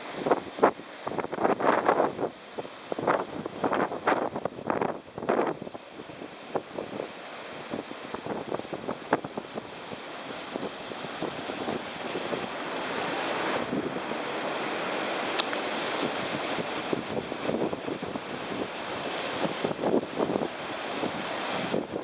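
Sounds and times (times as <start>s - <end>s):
sea waves splashing: 0.0s - 22.0s
wind buffeting microphone: 0.0s - 22.0s.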